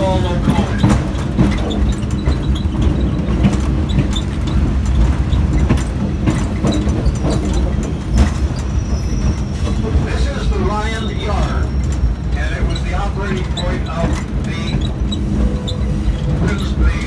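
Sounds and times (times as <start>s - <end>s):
clanks and rattles: 0.0s - 17.0s
railroad car rumbling on track: 0.0s - 17.0s.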